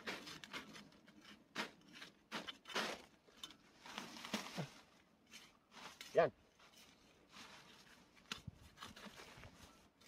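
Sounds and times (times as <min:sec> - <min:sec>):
hand shovel scraping soil: 0:00.0 - 0:10.0.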